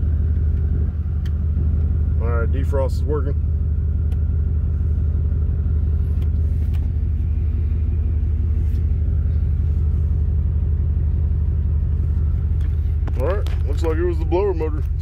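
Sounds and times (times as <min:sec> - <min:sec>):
blower fan pushing air: 0:00.0 - 0:15.0
car engine idling: 0:00.0 - 0:15.0.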